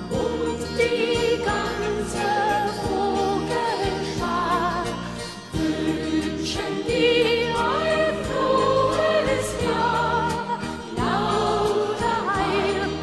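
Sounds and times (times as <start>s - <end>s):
light musical accompaniment: 0.0s - 13.0s
person singing with vibrato: 0.0s - 13.0s.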